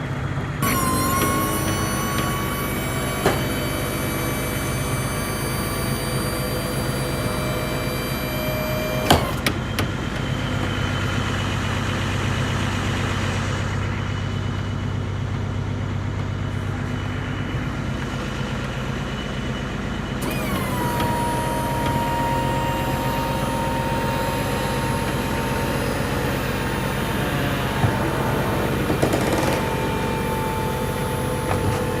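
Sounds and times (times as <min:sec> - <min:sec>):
motor whine: 0:00.0 - 0:32.0
truck engine idling: 0:00.0 - 0:32.0.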